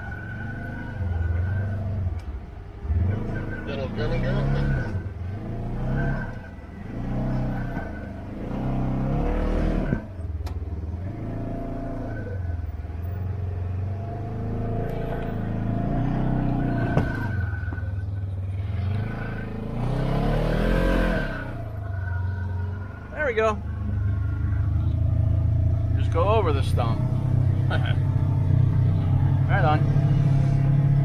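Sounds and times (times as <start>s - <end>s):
side-by-side engine revving: 0.0s - 31.0s.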